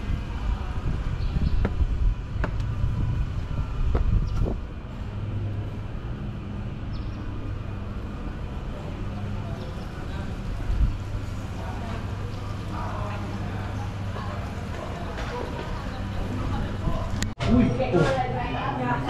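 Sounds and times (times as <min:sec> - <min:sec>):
vehicle engine rumbling: 0:00.0 - 0:17.4.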